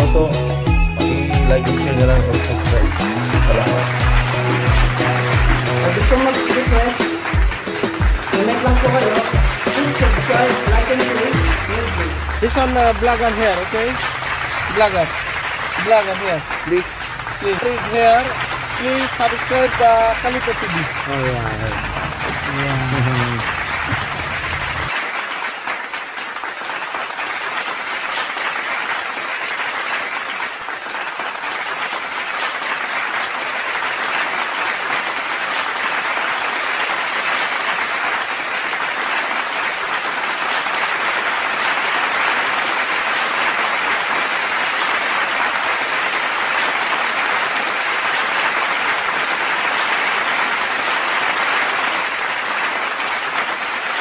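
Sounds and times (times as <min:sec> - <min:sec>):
steady applause: 0:00.9 - 0:54.0.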